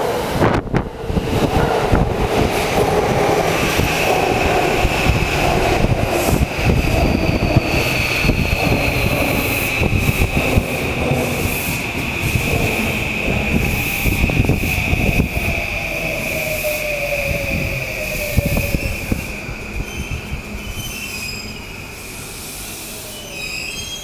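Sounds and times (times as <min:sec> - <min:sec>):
train wheels rumbling on rail: 0:00.0 - 0:24.0
high-pitched squeal: 0:03.4 - 0:24.0.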